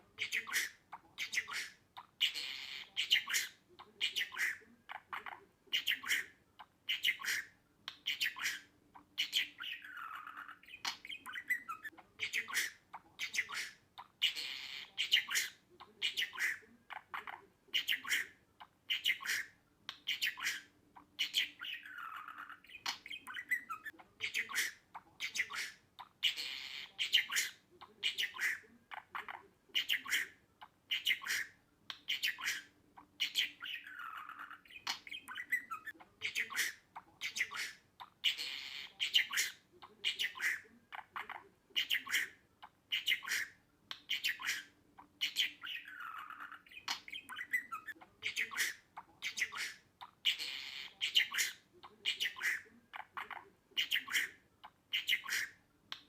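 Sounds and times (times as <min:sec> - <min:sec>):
budgerigar chirping: 0:00.0 - 0:56.0.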